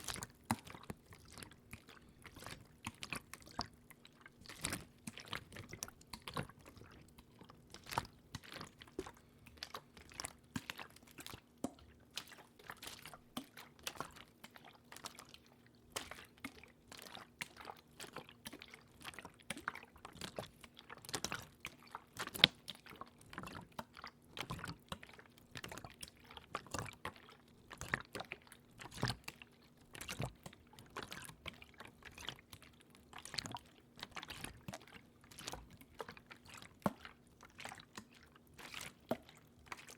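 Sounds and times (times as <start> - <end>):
water clicks drips and splashes: 0.0 - 39.9.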